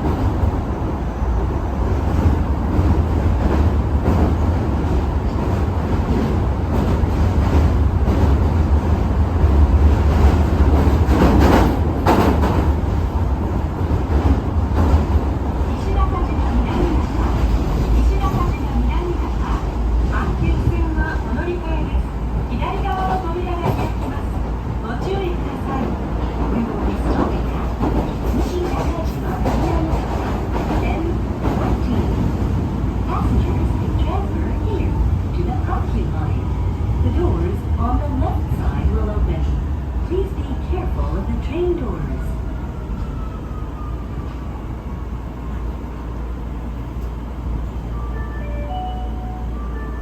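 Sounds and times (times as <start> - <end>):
train wheels rumbling on rail: 0.0 - 48.2.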